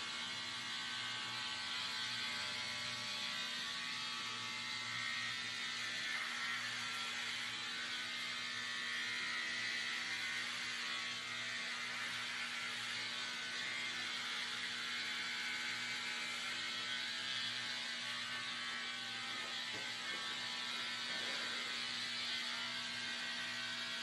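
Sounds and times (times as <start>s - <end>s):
electric hair clippers buzzing: 0.0s - 24.0s.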